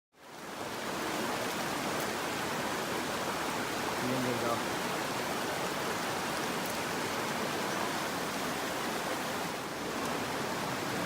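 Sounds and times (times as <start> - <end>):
stream rushing over rocks: 0.2 - 11.0.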